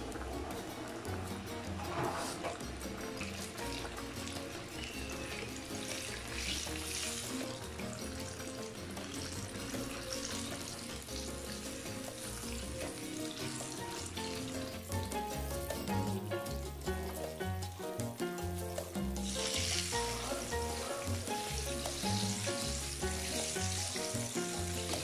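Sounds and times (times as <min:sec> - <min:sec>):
background music: 0:00.0 - 0:25.0
chicken deep-frying in oil: 0:00.0 - 0:25.0.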